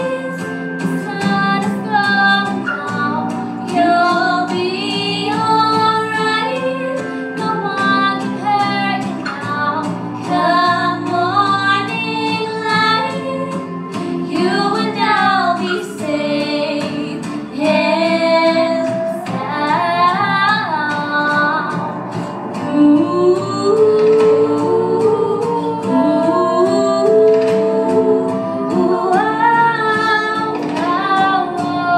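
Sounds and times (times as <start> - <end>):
girls singing: 0.0 - 31.9
instrumental backing music: 0.0 - 31.9.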